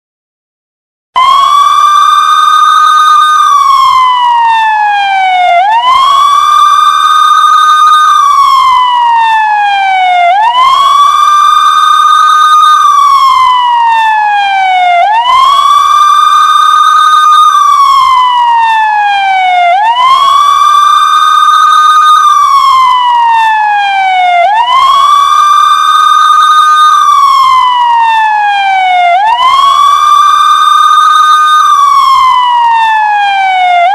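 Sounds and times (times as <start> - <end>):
police siren wailing: 1.2 - 33.9.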